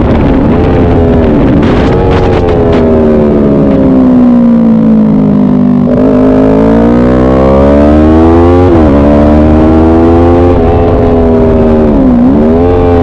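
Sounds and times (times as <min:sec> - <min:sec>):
motorcycle engine revving: 0:00.0 - 0:13.0
wind rushing over microphone: 0:00.0 - 0:13.0.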